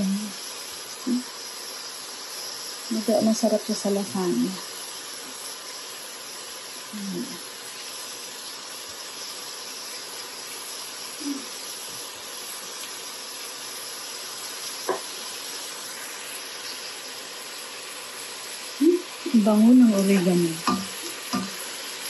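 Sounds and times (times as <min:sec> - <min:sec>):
meat and onion sizzling in a pan: 0:00.0 - 0:22.0.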